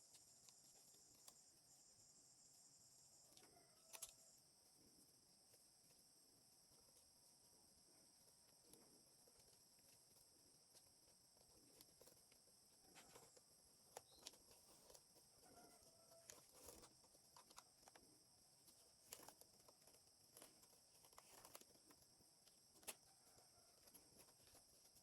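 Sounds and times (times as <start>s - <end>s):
rustling: 5.0s - 25.0s.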